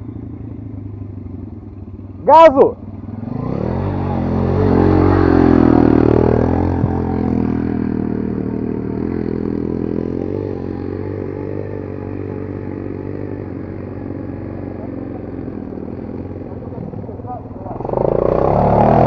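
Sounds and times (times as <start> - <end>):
dirt bike engine revving: 2.2 - 19.0.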